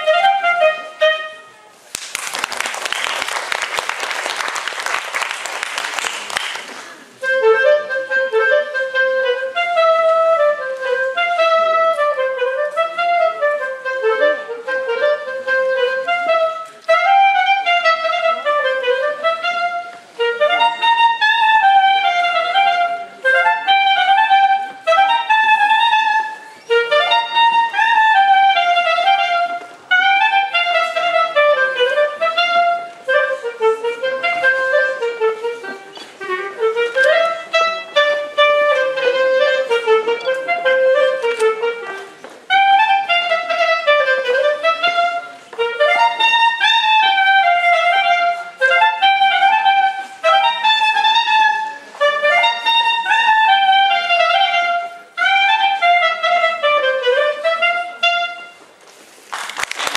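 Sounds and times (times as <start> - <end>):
solo clarinet folk melody: 0.0 - 2.0, 2.6 - 59.9.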